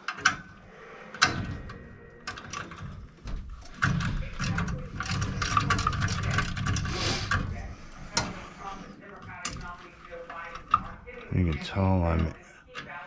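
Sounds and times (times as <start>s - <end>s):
metal tools clattering: 0.0s - 13.0s.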